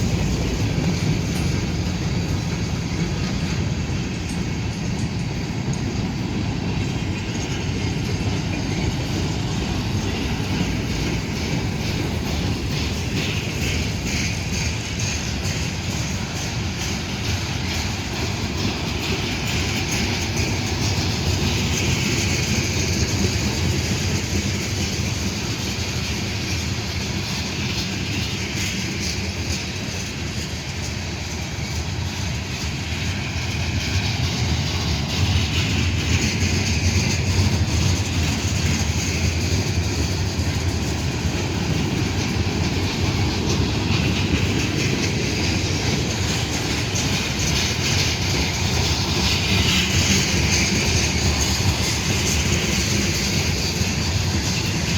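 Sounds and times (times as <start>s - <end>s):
freight train rolling past: 0.0s - 54.9s.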